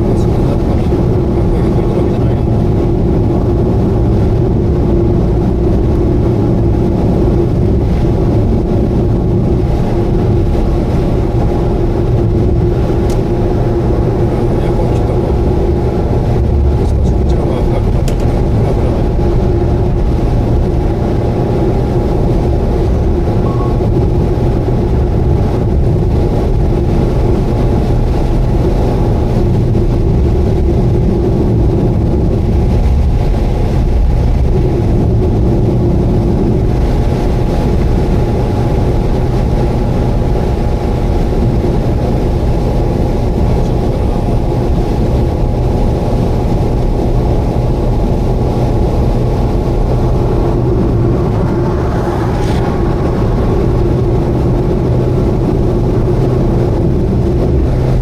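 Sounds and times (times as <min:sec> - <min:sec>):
car engine and road drone: 0:00.0 - 0:58.0
steady whining tone: 0:00.0 - 0:58.0.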